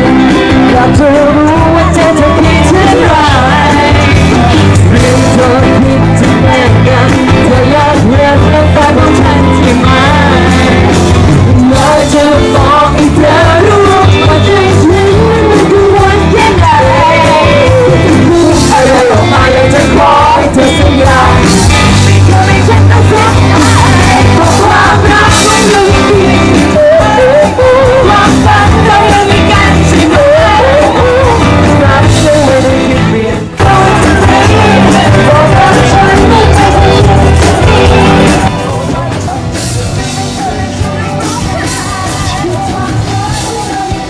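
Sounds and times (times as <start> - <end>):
live pop-rock band: 0.0 - 44.0
people singing into microphones: 0.0 - 44.0.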